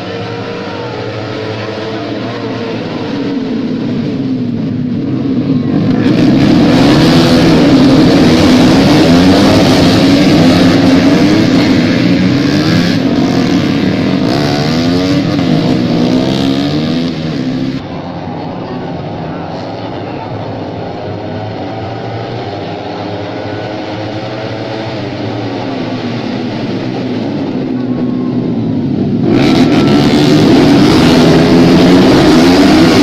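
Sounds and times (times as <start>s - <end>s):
racing motorcycles passing: 0.0s - 33.0s.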